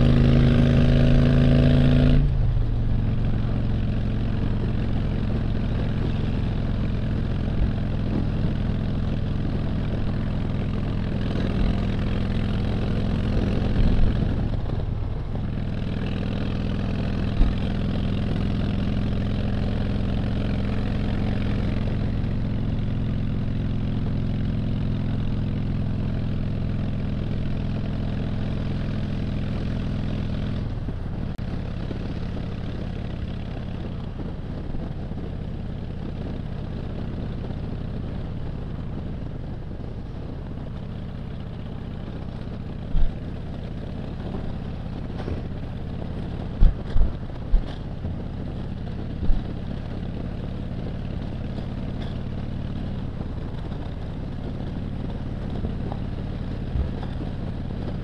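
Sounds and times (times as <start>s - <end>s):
wind noise: 0.0s - 23.3s, 28.6s - 58.0s
motorcycle engine cruising: 0.0s - 58.0s
road noise: 0.0s - 58.0s.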